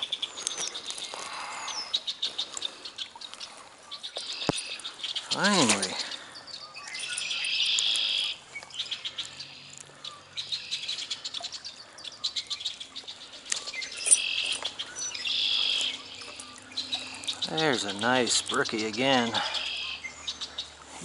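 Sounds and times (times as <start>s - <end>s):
songbirds trilling: 0.0s - 21.0s.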